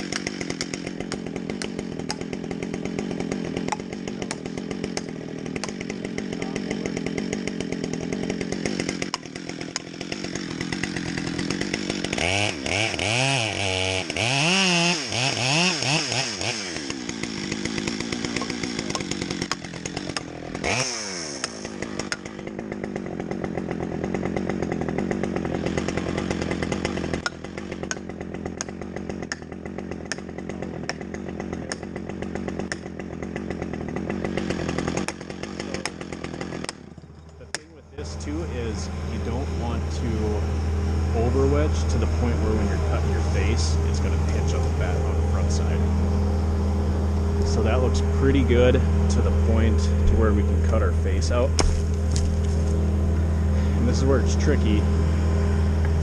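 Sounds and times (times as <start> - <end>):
chainsaw cutting and revving: 0.0 - 56.0.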